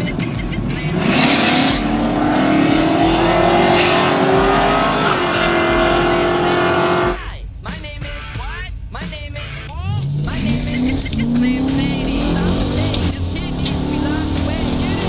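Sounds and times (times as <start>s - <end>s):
burst of hiss: 0.0s - 15.0s
car engine at full throttle: 0.0s - 15.0s.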